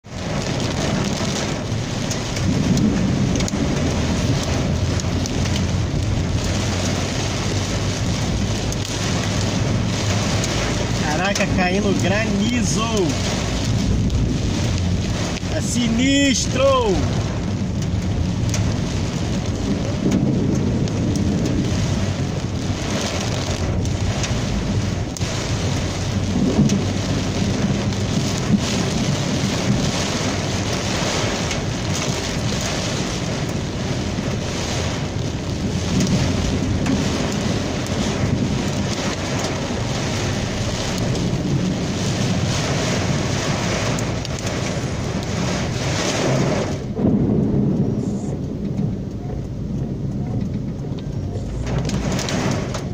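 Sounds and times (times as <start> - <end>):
rain and hail beating on surfaces: 0.0 - 52.9
thunder rumbling: 0.0 - 52.9.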